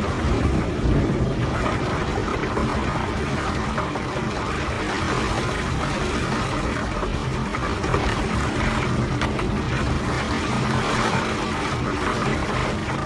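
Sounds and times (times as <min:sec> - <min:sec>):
seawater surging and crashing: 0:00.0 - 0:13.0
wind buffeting microphone: 0:00.0 - 0:13.0.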